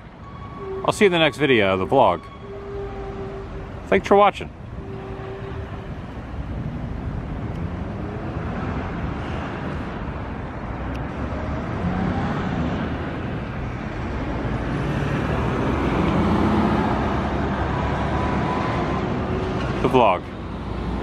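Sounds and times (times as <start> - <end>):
freeway traffic rushing: 0.0 - 21.0.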